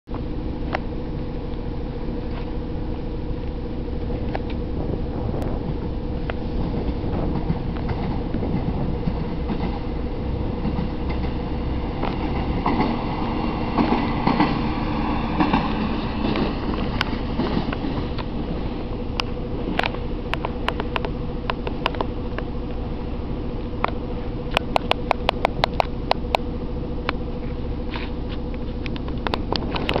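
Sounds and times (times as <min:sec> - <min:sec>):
diesel engine drone: 0:00.1 - 0:30.0
wheels clicking over rail joints: 0:03.3 - 0:30.0.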